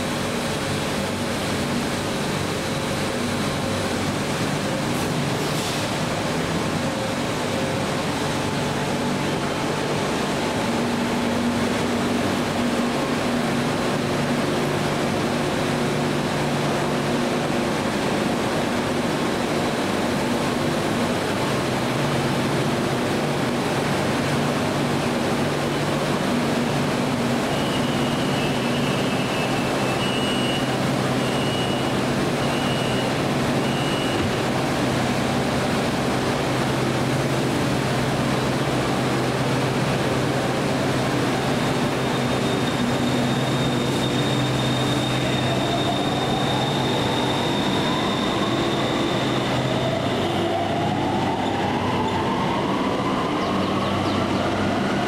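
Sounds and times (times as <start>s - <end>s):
electric train humming: 0.0s - 55.0s.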